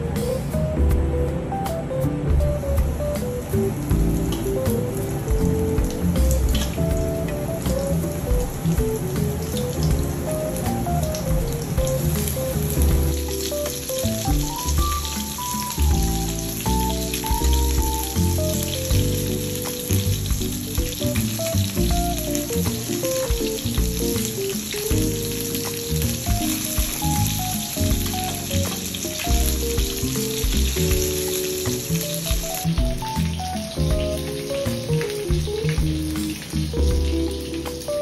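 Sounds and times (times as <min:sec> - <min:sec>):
background music: 0:00.0 - 0:38.0
chicken frying in oil: 0:02.6 - 0:38.0.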